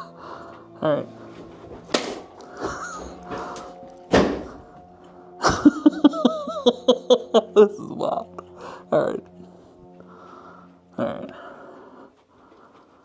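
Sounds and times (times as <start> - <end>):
droning soundtrack: 0.0 - 13.0.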